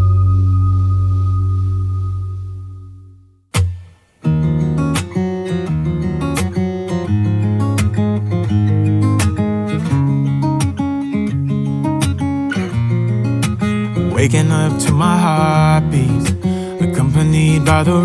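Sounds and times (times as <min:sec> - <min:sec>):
instrumental pop music: 0:03.5 - 0:18.0.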